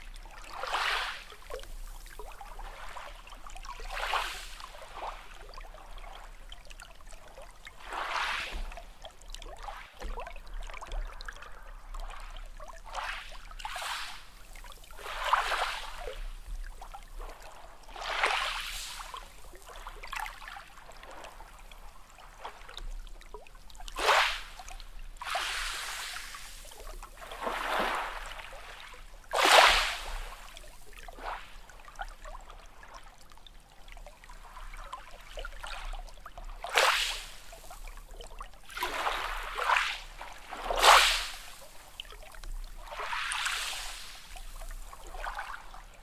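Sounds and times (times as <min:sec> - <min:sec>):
small sea waves washing in: 0:00.0 - 0:46.0.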